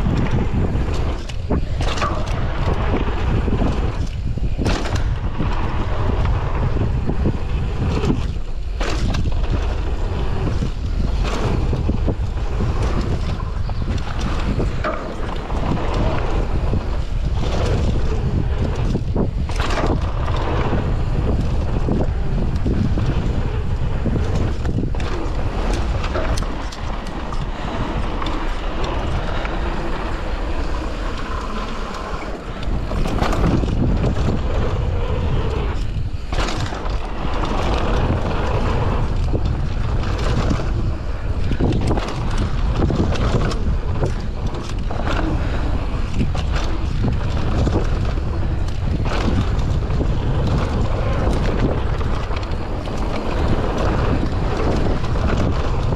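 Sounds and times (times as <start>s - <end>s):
bike knocks and rattles: 0.0s - 55.9s
tyres rolling on gravel: 0.0s - 55.9s
wind buffeting microphone: 0.0s - 55.9s.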